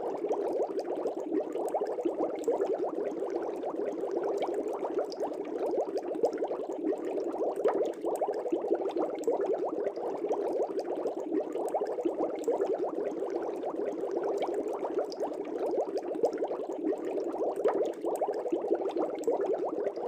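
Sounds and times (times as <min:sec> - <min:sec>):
air bubbles in aquarium water: 0:00.0 - 0:20.0.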